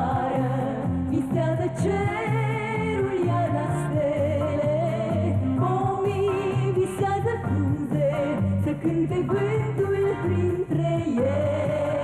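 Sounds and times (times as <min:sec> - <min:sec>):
woman singing with vibrato: 0:00.0 - 0:12.0.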